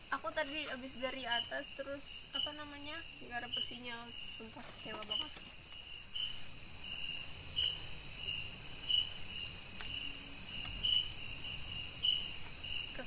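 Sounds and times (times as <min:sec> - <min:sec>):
insects shrill drone: 0:00.0 - 0:13.0
short insect chirps: 0:00.0 - 0:13.0.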